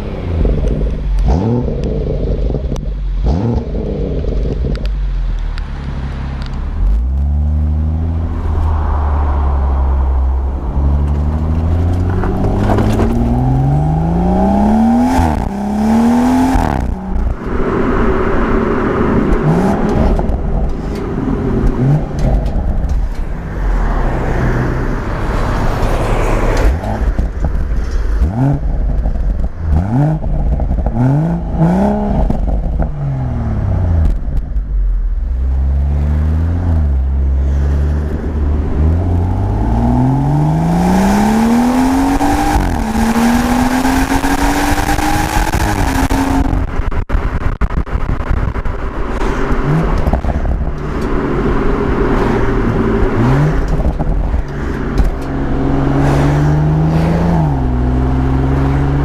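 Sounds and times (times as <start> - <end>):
car engine revving: 0.0 - 59.0
exhaust cracks: 0.0 - 59.0.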